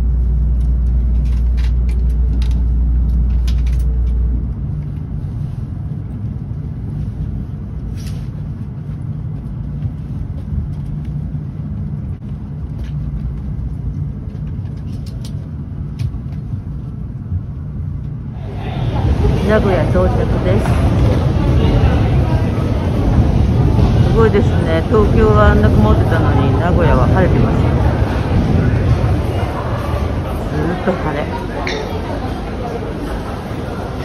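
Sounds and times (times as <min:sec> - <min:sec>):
deep hum: 0:00.0 - 0:34.0
train low rumble: 0:00.0 - 0:34.0.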